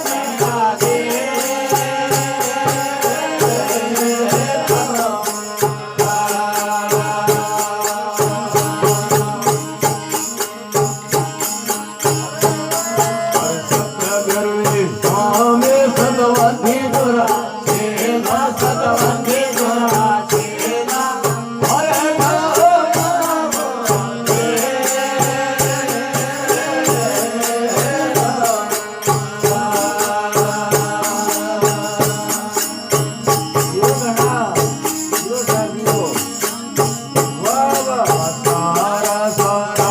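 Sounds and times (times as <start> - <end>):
devotional song melody: 0.0 - 39.9
jingling percussion beat: 0.0 - 39.9.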